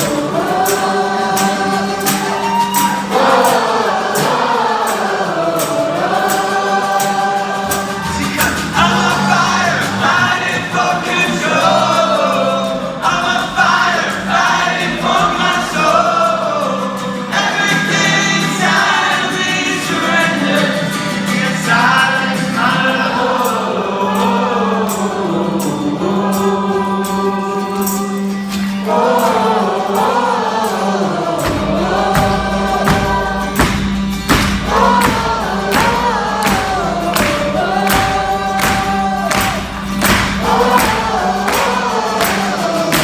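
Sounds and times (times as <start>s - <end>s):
sung vocals: 0.0s - 43.0s.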